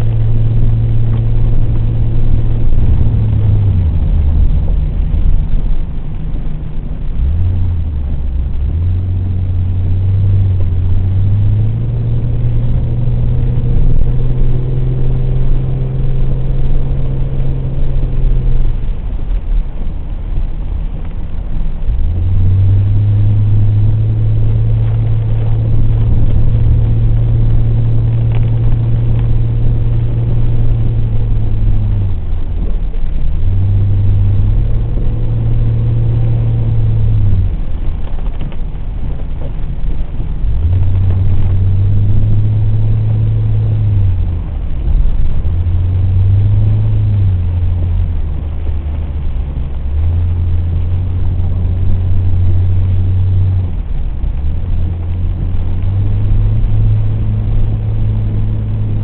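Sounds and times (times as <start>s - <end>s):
car engine droning: 0.0s - 59.0s
road noise hiss: 0.0s - 59.0s.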